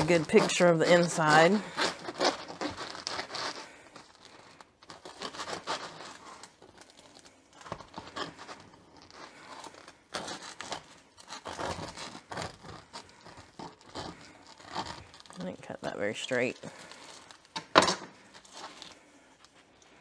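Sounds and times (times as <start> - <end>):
knife sawing crusty bread: 0.0 - 17.5.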